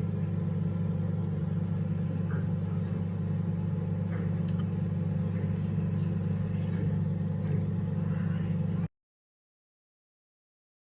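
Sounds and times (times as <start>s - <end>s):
low mechanical hum: 0.0s - 8.9s.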